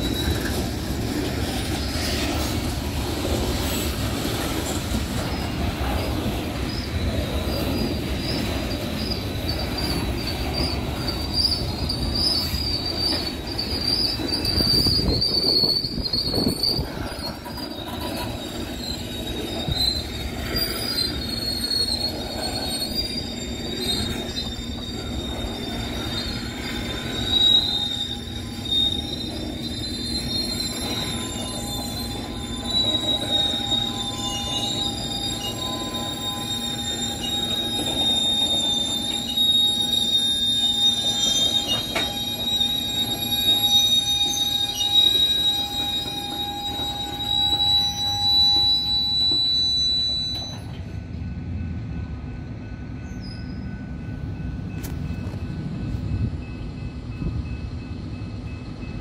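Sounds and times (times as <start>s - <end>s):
train rumble: 0.0s - 59.0s
train wheels squealing on rails: 0.0s - 59.0s.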